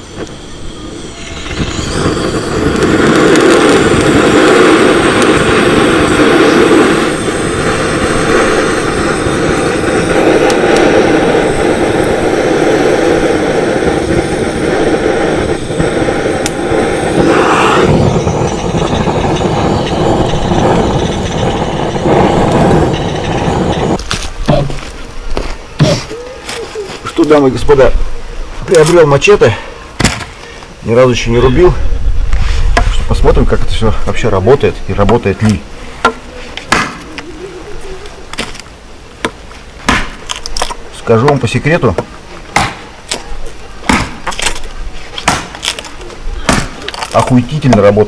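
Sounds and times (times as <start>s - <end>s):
gas torch flame rushing: 0.0s - 48.0s.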